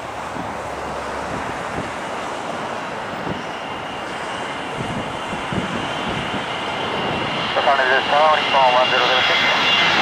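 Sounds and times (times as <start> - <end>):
high engine whine: 0.0 - 10.0
jet engines rushing: 0.0 - 10.0.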